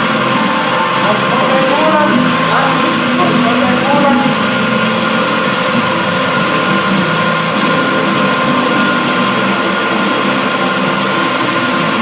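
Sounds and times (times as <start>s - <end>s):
milling machine spindle whine: 0.0s - 12.0s.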